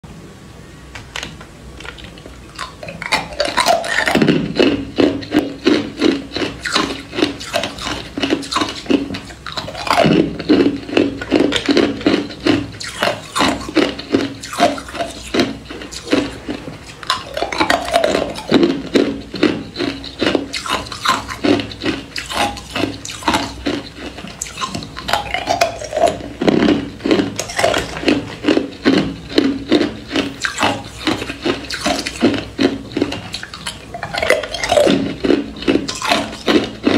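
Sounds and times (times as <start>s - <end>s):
ice cubes crunched between teeth: 1.8s - 36.9s.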